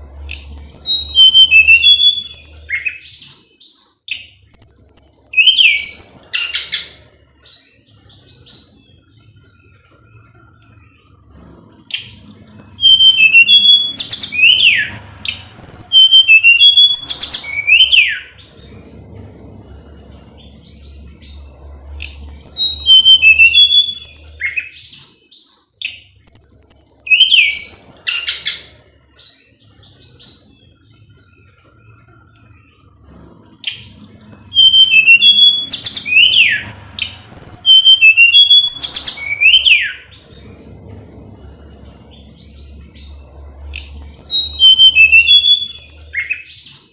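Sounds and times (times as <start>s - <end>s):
faint low hum: 0.0s - 46.9s
bird singing whistled notes: 0.1s - 8.8s, 11.9s - 18.7s, 19.6s - 30.5s, 33.6s - 40.5s, 41.4s - 46.8s.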